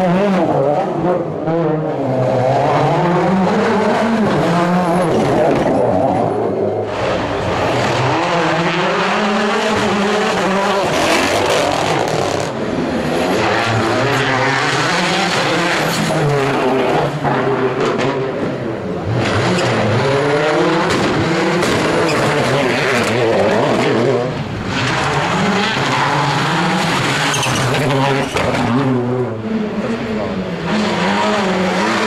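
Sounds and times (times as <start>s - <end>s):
rally car engines revving hard: 0.0s - 32.0s.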